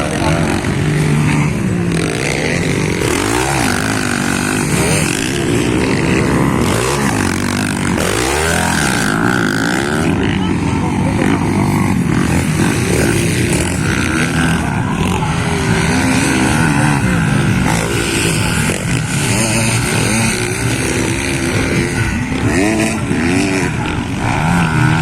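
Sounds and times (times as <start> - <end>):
motocross bikes revving: 0.0 - 25.0.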